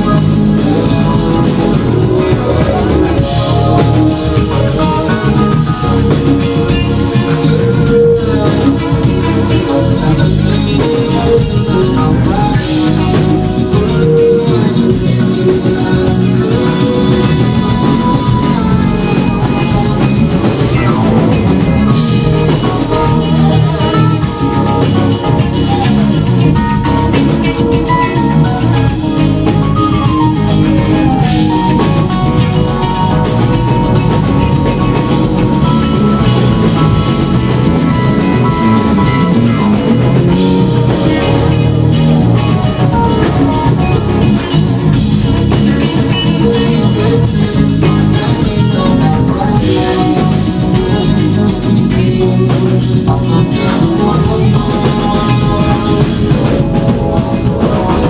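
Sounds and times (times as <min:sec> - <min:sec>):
funk band playing live: 0:00.0 - 0:58.0.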